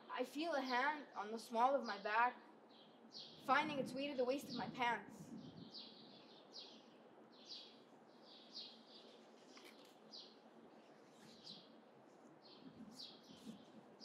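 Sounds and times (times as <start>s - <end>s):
outdoor background hiss: 0.0s - 14.0s
small bird chirping: 1.8s - 14.0s.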